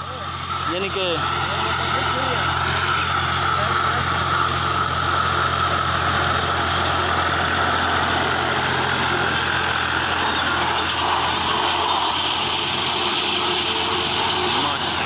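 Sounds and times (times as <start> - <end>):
rotary mower whirring: 0.0 - 15.0
tractor engine hum: 0.0 - 15.0.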